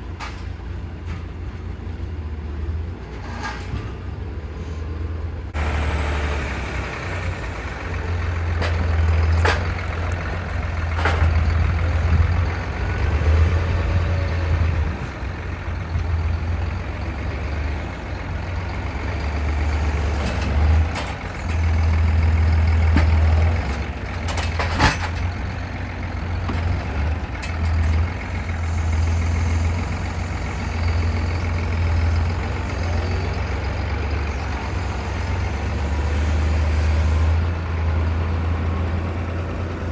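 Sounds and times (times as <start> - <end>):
heavy vehicle engine humming: 0.0 - 39.9.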